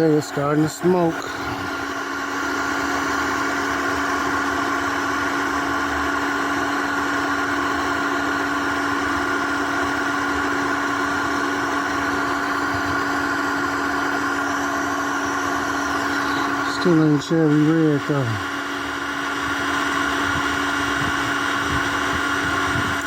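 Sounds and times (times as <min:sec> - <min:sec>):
induction heater humming: 0:00.0 - 0:23.0.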